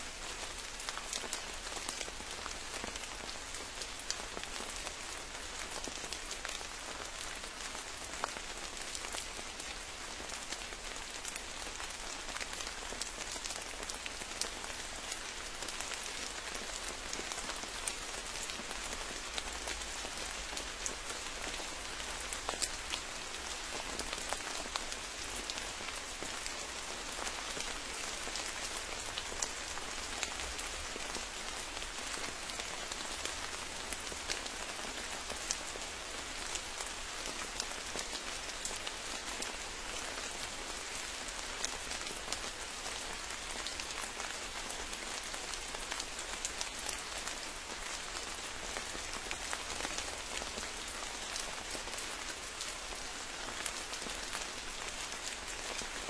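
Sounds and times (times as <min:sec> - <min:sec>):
rain falling in forest: 0:00.0 - 0:56.0.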